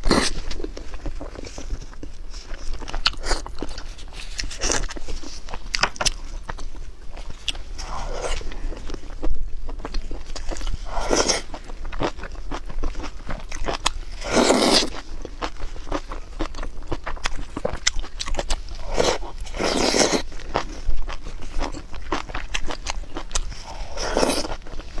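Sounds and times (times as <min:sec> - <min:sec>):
wet chewing and crunching: 0:00.0 - 0:25.0.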